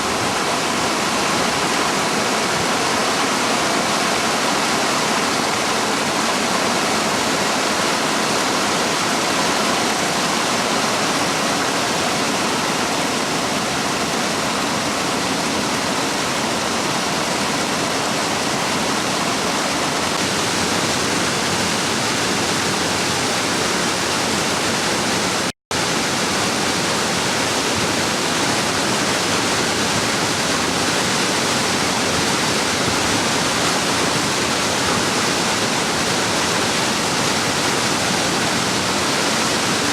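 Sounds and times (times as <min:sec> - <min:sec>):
water rushing down a ravine: 0:00.0 - 0:39.9.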